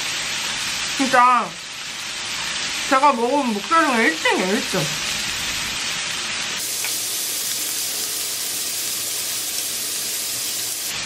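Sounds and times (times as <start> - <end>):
pork sizzling in a grill pan: 0.0 - 11.0.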